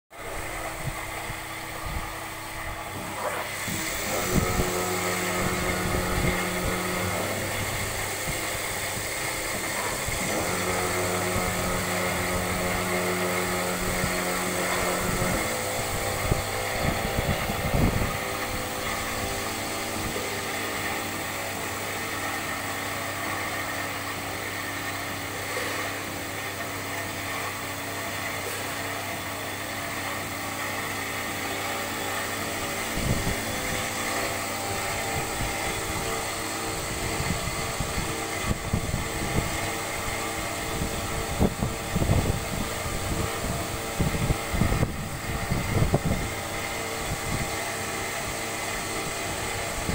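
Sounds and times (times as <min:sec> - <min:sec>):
high-pitched machine whine: 0:00.1 - 0:49.9
lathe mechanical hum: 0:00.1 - 0:49.9.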